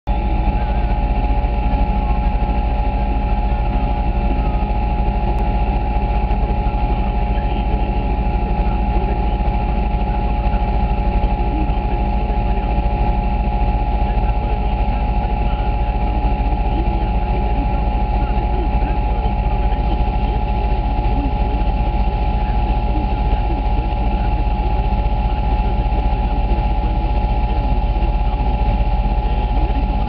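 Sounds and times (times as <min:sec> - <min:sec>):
atv engines idling: 0:00.1 - 0:30.0.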